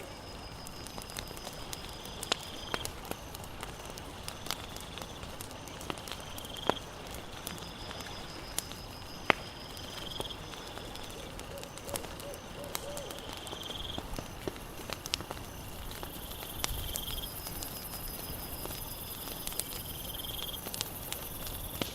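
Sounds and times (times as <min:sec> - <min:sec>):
campfire crackling and popping: 0:00.0 - 0:21.9
insects chirping in trills: 0:00.0 - 0:21.9.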